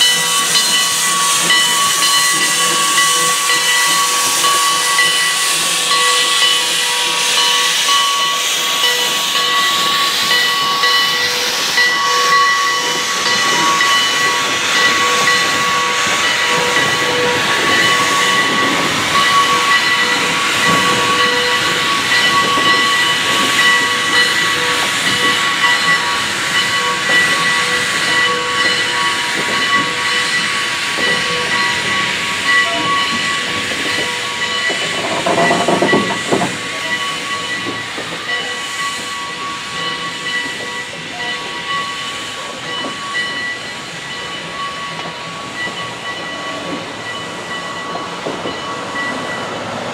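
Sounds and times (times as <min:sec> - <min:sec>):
steam locomotive venting steam: 0:00.0 - 0:49.9.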